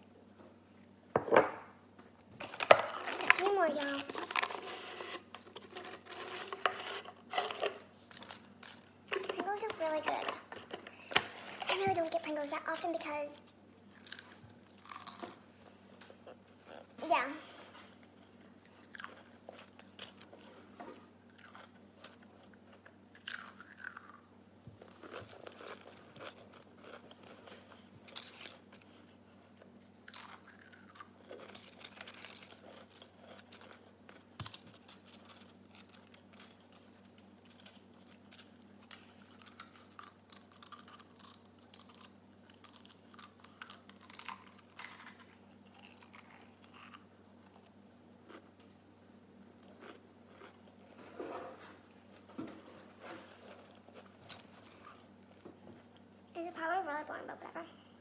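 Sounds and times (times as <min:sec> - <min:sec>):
crisps crunching while chewed: 0:02.4 - 0:13.0, 0:13.8 - 0:17.0, 0:18.0 - 0:48.9, 0:49.5 - 0:51.2, 0:52.1 - 0:56.2.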